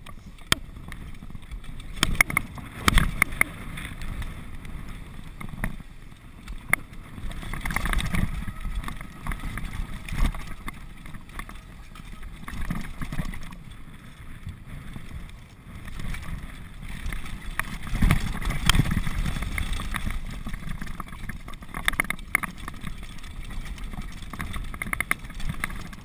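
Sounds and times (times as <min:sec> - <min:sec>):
bike knocking and rattling: 0:00.0 - 0:26.0
wind buffeting microphone: 0:00.0 - 0:26.0.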